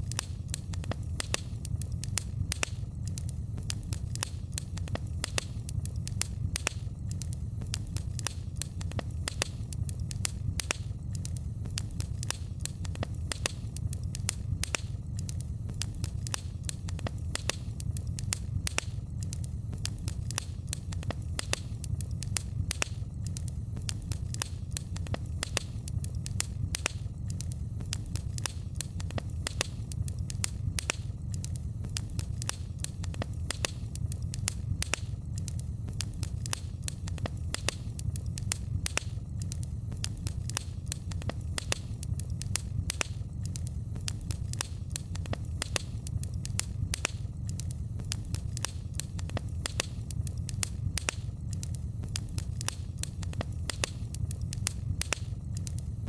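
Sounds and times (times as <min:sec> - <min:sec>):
low rumble of flames: 0:00.0 - 0:56.0
wood fire popping and crackling: 0:00.0 - 0:56.0.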